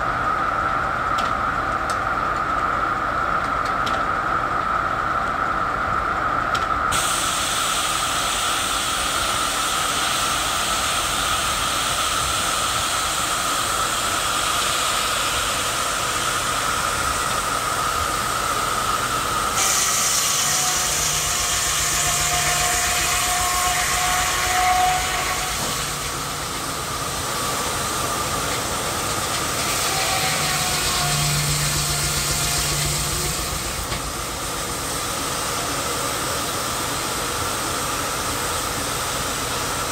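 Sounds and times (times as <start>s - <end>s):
steady whine: 0.0s - 39.9s
steam hissing: 6.8s - 39.9s
steam engine running: 6.9s - 39.9s.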